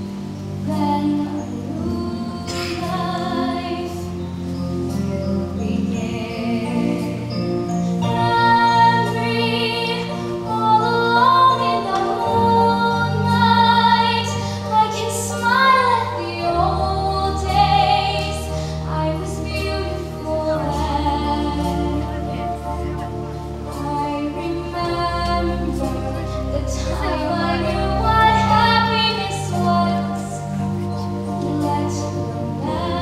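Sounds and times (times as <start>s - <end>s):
girl singing with vibrato: 0.7s - 4.2s, 8.0s - 22.6s, 23.8s - 33.0s.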